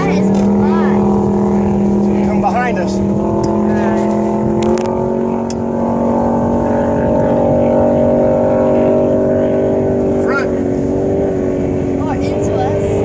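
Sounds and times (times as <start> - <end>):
low rumble of wind and water: 0.0 - 13.0
speedboat engine running: 0.0 - 13.0.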